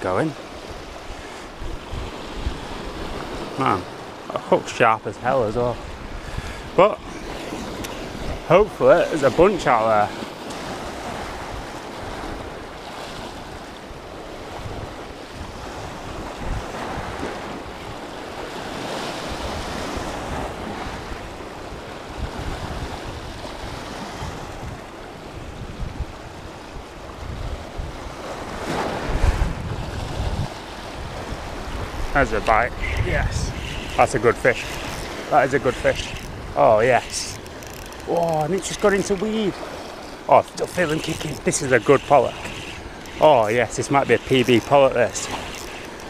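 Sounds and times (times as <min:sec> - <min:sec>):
wind buffeting microphone: 0:00.0 - 0:03.6, 0:05.5 - 0:09.5, 0:10.5 - 0:46.0
waves breaking over rocks: 0:00.0 - 0:46.0.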